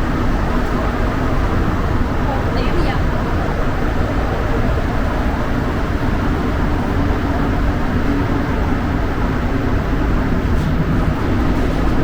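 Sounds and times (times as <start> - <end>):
metro train rumble: 0.0 - 12.0.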